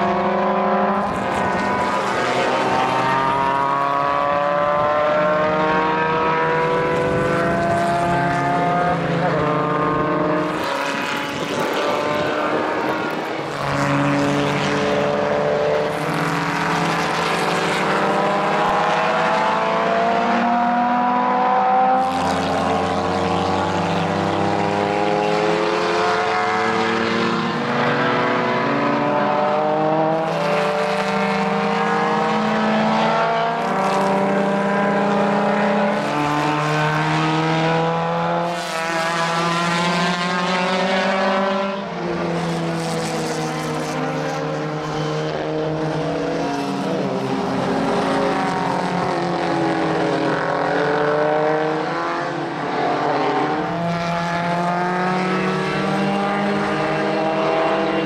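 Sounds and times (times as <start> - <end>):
racing cars driving past: 0.0 - 58.0.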